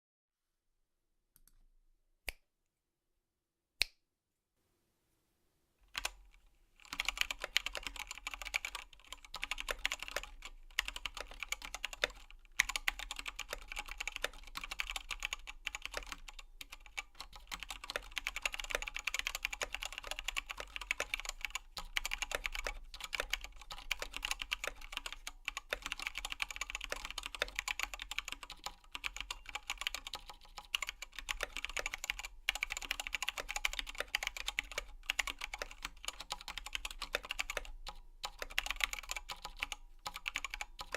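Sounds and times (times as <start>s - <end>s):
mechanical keyboard typing: 5.9s - 6.2s, 6.8s - 40.9s.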